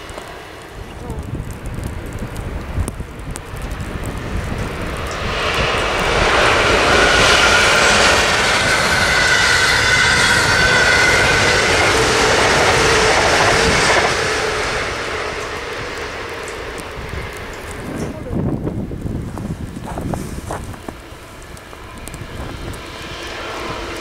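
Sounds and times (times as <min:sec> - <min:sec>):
low wind rumble on microphone: 0:00.0 - 0:24.0
train wheels rushing on rail: 0:00.0 - 0:24.0.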